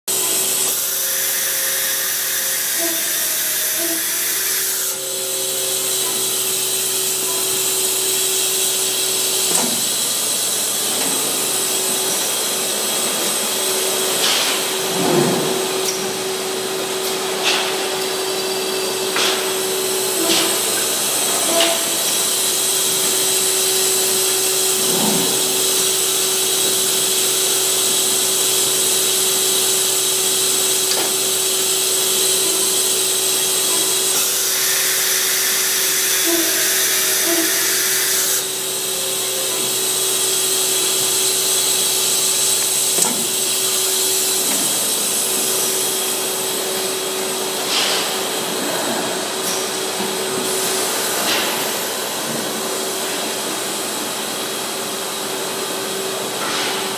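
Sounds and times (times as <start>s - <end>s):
machining center whine and hiss: 0.1s - 56.9s.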